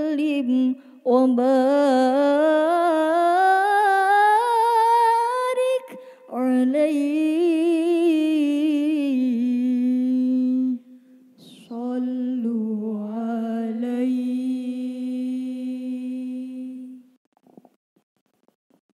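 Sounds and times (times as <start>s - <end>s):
girls singing a cappella: 0.0s - 10.8s, 11.4s - 17.1s.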